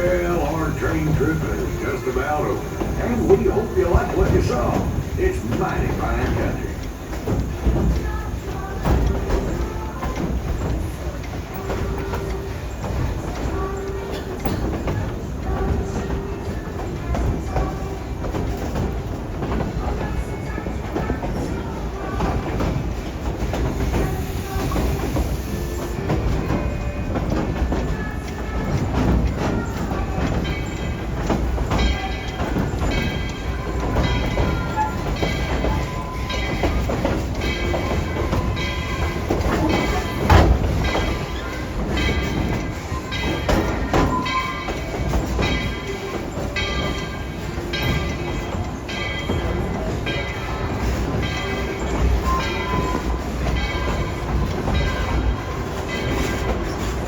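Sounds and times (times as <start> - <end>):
train rumble: 0.0 - 57.0
wheels clacking over track: 0.0 - 57.0.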